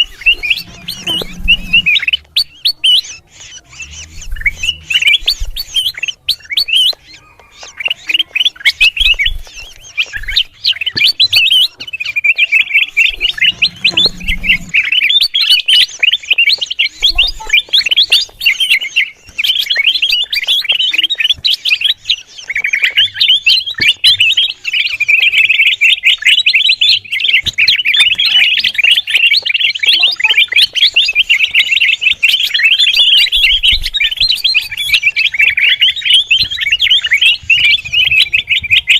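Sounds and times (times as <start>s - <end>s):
bulbul chirping: 0.0s - 38.9s.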